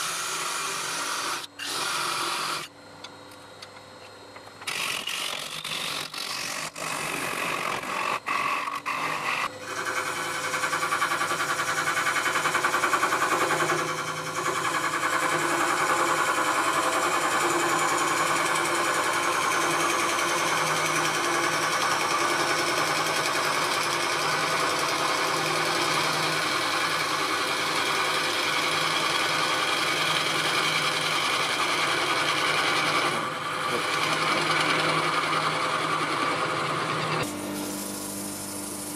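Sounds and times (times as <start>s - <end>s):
wood lathe running: 0.0s - 2.7s, 4.6s - 38.9s
gouge rasping on spinning wood: 4.6s - 38.9s.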